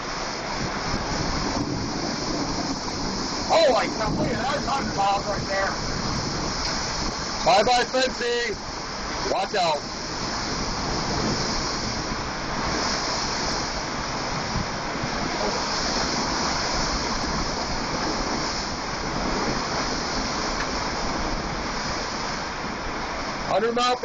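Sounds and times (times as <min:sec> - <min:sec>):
strong storm wind blowing: 0:00.0 - 0:24.0.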